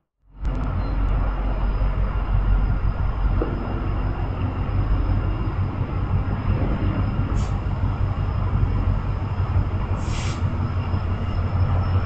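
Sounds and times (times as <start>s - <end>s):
freight train rumbling: 0.3s - 12.0s.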